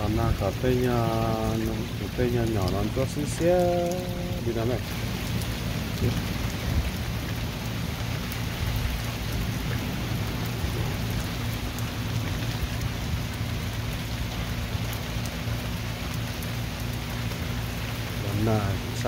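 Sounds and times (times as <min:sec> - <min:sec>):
low uneven rumble: 0:00.0 - 0:19.0
rain on lawn and wooden deck: 0:00.0 - 0:19.0.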